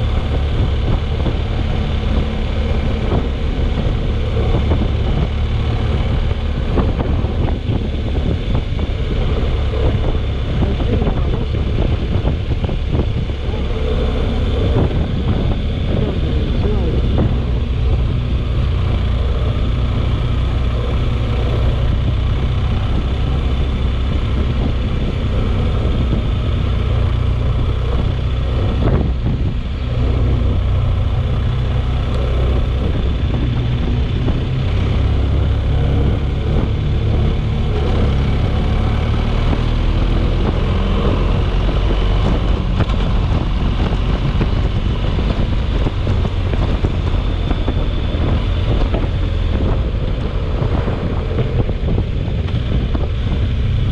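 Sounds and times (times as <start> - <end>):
storm wind buffeting microphone: 0.0 - 53.9.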